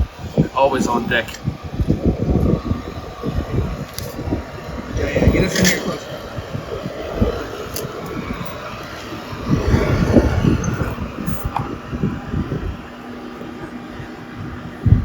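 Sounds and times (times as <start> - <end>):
tractor diesel engine rumbling: 0.0 - 15.0.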